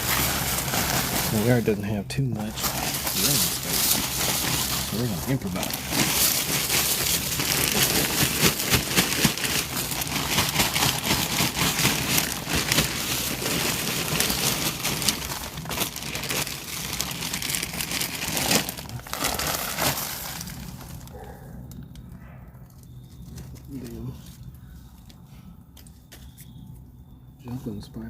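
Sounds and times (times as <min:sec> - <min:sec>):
dry leaves rustling in plastic tub: 0:00.0 - 0:21.3, 0:23.2 - 0:24.5.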